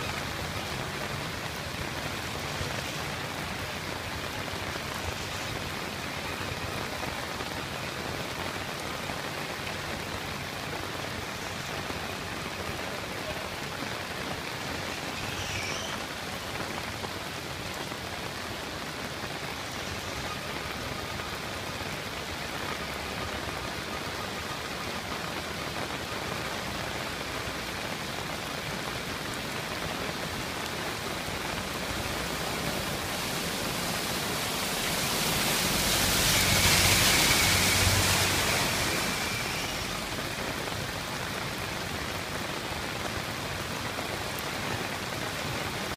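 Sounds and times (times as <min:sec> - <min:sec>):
heavy rain hissing: 0:00.0 - 0:45.9.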